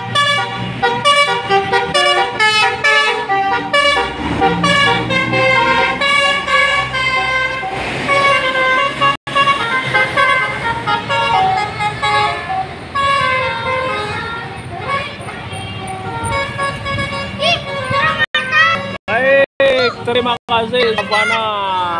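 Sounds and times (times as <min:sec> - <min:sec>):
multi-tone melodic bus horn: 0:00.0 - 0:21.6
low traffic hum: 0:00.0 - 0:21.9.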